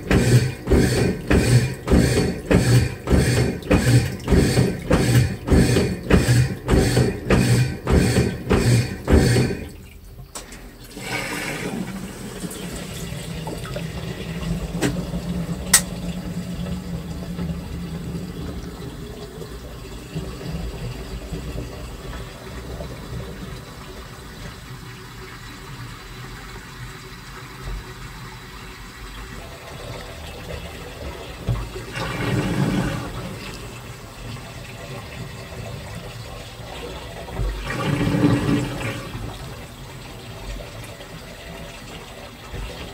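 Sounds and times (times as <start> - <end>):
washing machine sloshing: 0.0 - 42.9
water rushing in washing machine: 0.0 - 42.9.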